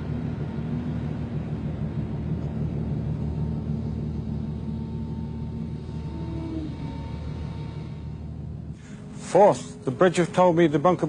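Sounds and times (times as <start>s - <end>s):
ship machinery rumbling: 0.0s - 11.0s.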